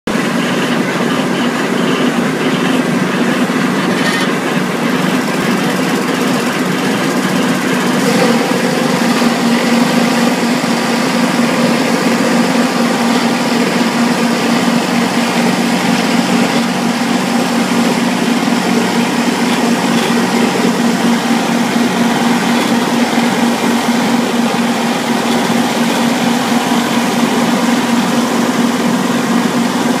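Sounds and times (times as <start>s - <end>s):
tractor engine drone: 0.0s - 30.0s.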